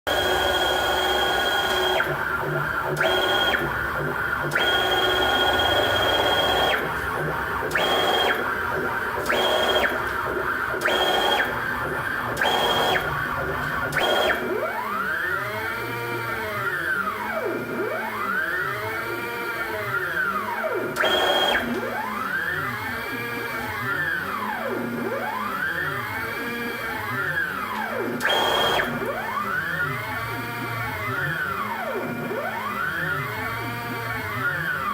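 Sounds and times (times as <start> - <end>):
stepper motors whining: 0.0 - 34.9.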